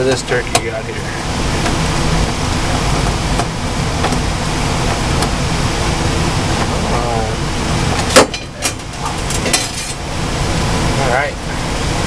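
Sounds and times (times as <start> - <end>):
heat pump running: 0.0 - 12.0.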